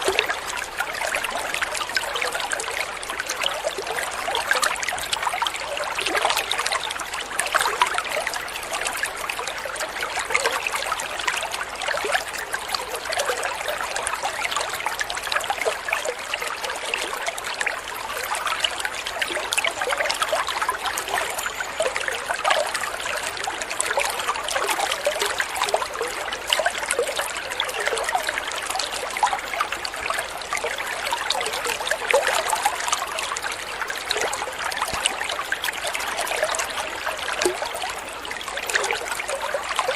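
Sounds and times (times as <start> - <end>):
shallow water trickling: 0.0 - 39.9.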